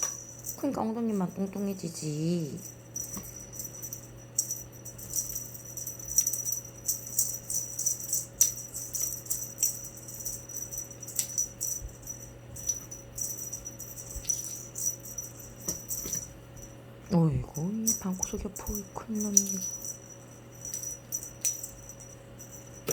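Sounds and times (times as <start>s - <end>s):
toy wand rattling: 0.0s - 16.8s, 17.6s - 22.9s.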